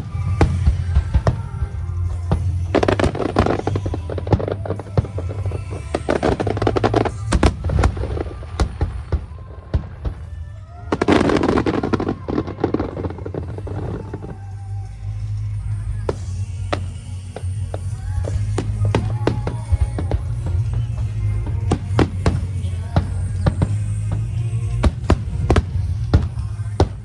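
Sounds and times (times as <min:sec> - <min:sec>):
fireworks bangs: 0:00.0 - 0:14.8, 0:16.0 - 0:27.0
fireworks crackling: 0:00.0 - 0:27.0
music with steady bass: 0:00.0 - 0:27.0.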